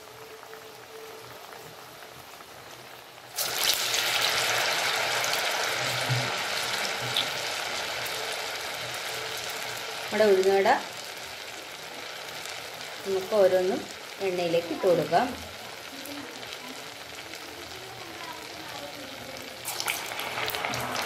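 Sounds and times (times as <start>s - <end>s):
fritters sizzling in hot oil: 0.0s - 21.0s.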